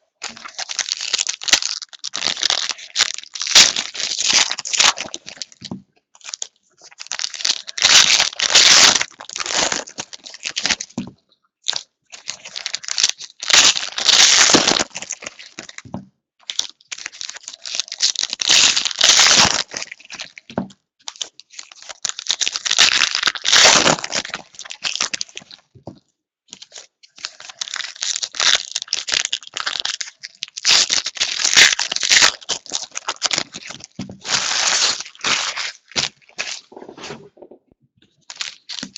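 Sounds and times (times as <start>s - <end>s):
plastic wrappers crinkling and tearing: 0.2s - 11.0s, 11.7s - 25.7s, 26.5s - 36.8s, 38.3s - 38.9s.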